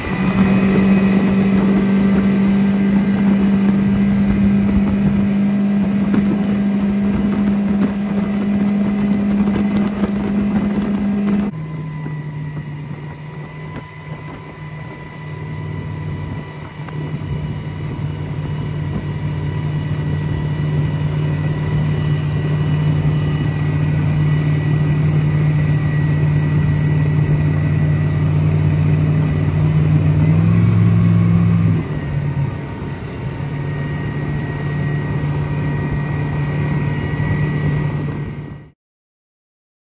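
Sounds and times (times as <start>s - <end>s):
faint engine whine: 0.0s - 38.8s
outboard motor running: 0.0s - 38.8s.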